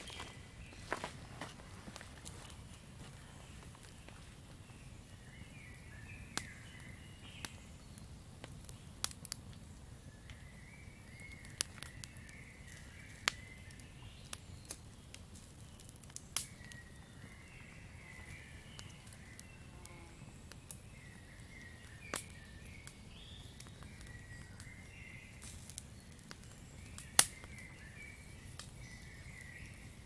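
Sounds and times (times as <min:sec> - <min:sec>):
campfire crackling: 0:00.0 - 0:30.0
faint chirping: 0:02.3 - 0:15.2, 0:15.8 - 0:30.0.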